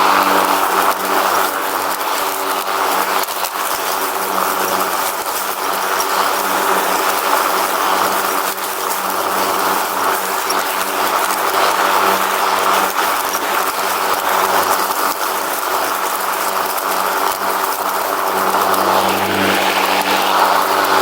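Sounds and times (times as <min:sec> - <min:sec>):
riding lawn mower engine running: 0:00.0 - 0:21.0.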